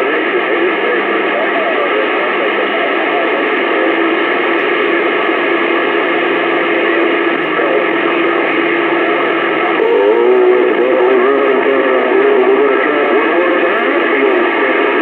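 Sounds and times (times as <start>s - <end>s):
heterodyne whine: 0.0s - 15.0s
radio static hiss: 0.0s - 15.0s
warbling garbled radio signal: 0.0s - 15.0s.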